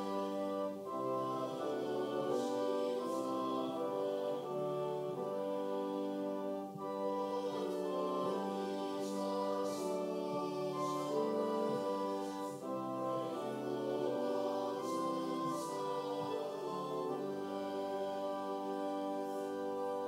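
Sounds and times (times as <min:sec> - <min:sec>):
congregation singing a hymn: 0:00.0 - 0:20.0
sustained accompanying chords: 0:00.0 - 0:20.0.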